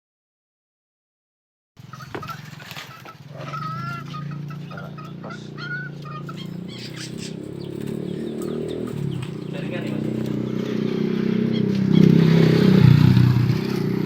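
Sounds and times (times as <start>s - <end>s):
songbirds chirping: 1.8s - 14.0s.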